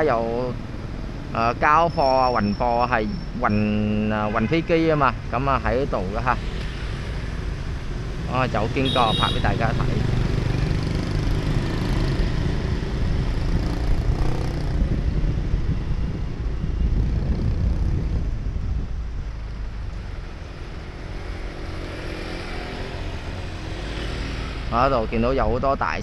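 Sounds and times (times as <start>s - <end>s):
vehicle engines rumbling: 0.0s - 26.0s.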